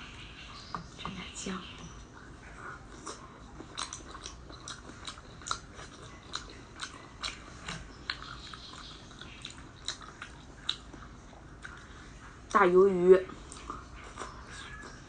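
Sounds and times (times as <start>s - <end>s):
mouth chewing clicks and smacks: 1.9s - 12.6s, 13.3s - 15.0s.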